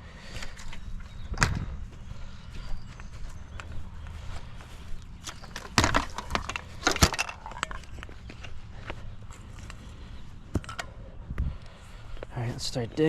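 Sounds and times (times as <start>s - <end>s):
footsteps: 0.2s - 10.7s.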